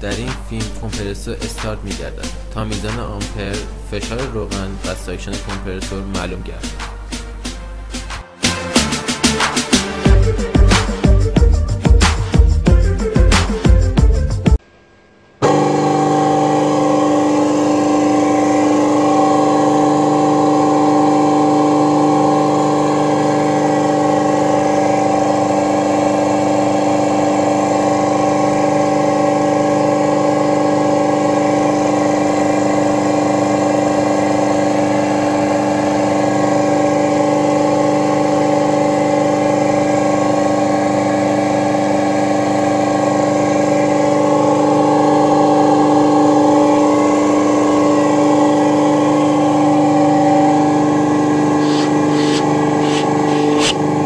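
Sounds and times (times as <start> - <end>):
compressor humming: 0.0 - 8.2, 10.0 - 54.0.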